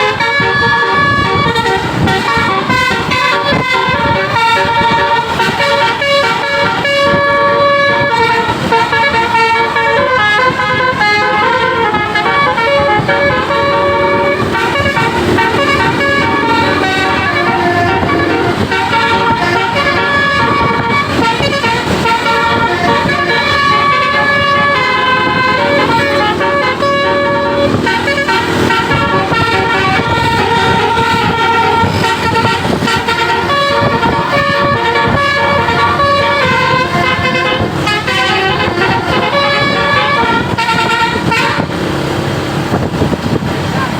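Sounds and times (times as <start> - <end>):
musical air horns playing melody: 0.0 - 42.2.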